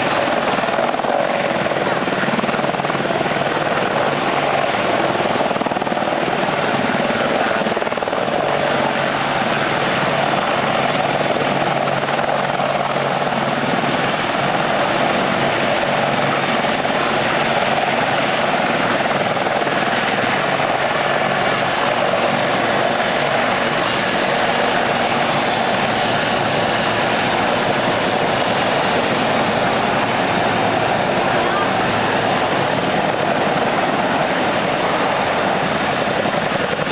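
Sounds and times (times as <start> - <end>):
helicopter rotor and turbine drone: 0.0 - 36.9.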